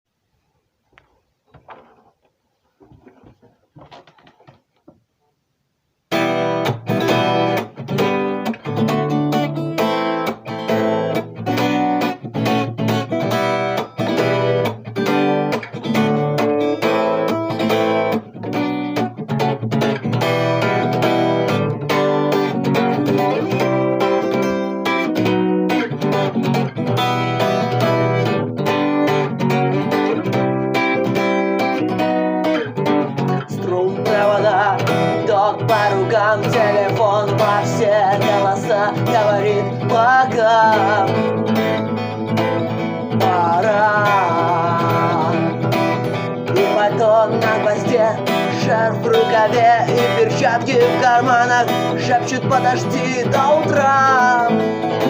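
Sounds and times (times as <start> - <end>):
guitar strumming chords: 6.1 - 55.0.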